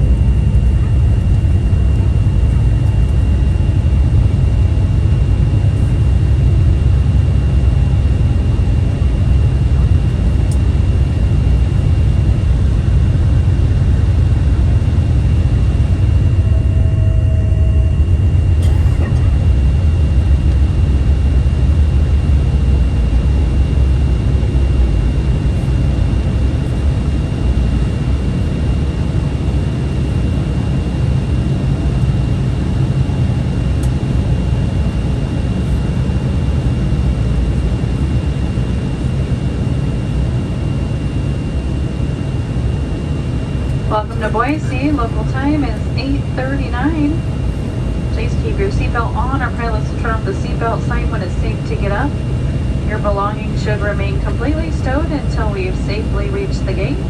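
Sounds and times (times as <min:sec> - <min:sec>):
faint high whine: 0:00.0 - 0:57.0
jet engine low rumble: 0:00.0 - 0:57.0.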